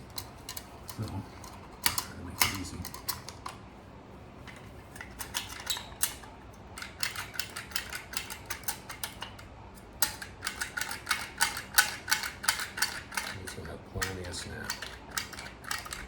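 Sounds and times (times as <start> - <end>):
small metal parts clicking: 0.0 - 3.6, 4.5 - 16.0.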